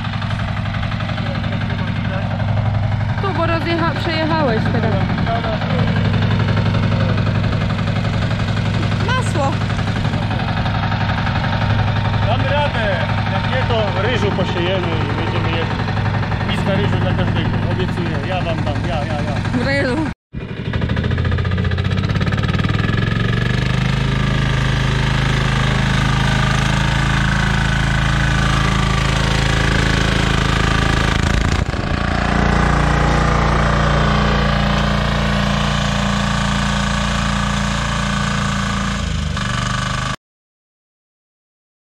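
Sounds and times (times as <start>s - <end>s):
walking tractor diesel engine: 0.0s - 40.2s.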